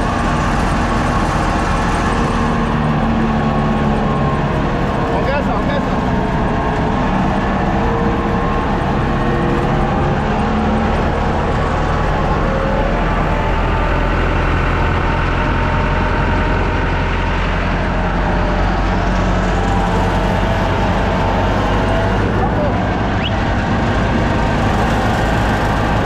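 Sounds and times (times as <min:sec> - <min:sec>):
harvesting machine engine running: 0:00.0 - 0:26.0.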